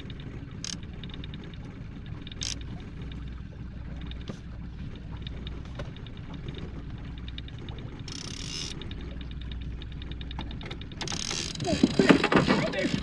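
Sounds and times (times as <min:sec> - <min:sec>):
light mechanical ticks: 0:00.0 - 0:12.0
outboard motor running: 0:00.0 - 0:13.0.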